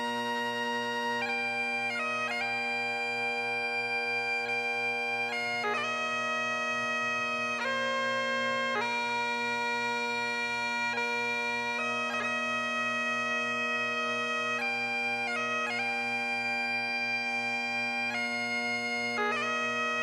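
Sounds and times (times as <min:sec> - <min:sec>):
bagpipes playing slow melody: 0:00.0 - 0:20.0.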